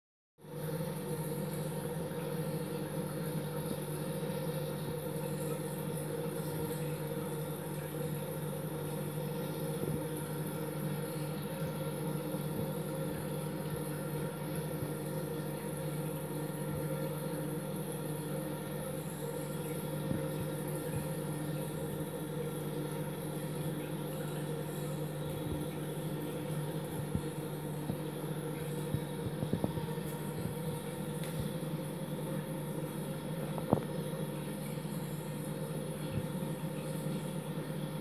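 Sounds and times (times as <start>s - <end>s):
aquarium pumps humming: 0.4s - 38.0s.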